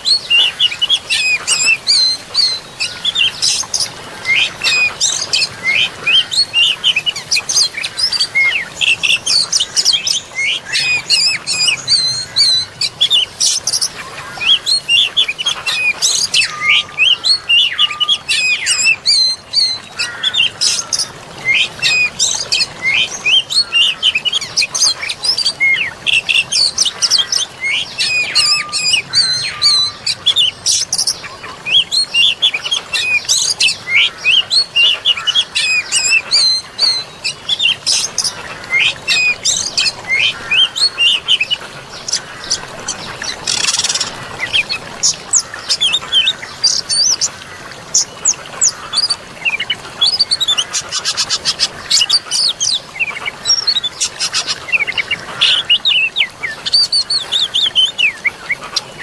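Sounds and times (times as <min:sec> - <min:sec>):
flowing water hiss: 0:00.0 - 0:59.0
songbirds chirping and singing: 0:00.0 - 0:59.0.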